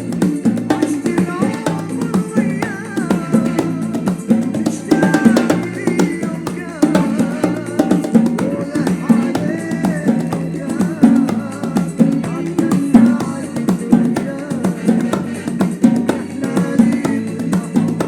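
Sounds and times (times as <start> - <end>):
pop song with plucked strings: 0.0 - 18.0.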